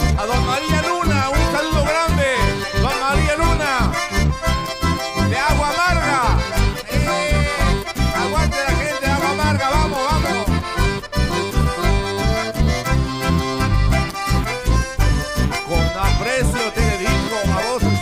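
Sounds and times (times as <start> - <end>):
button accordions playing: 0.0 - 18.0
live band playing: 0.0 - 18.0.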